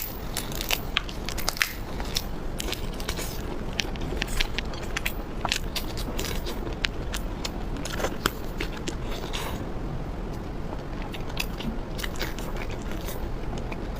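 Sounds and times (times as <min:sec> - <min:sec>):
wet chewing: 0:00.0 - 0:13.9.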